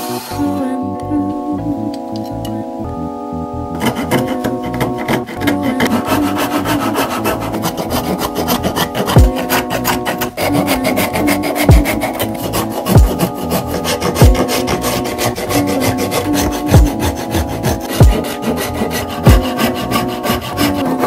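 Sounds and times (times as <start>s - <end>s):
background music with bass notes: 0.0s - 21.0s
wood rasp scraping branch: 3.8s - 21.0s.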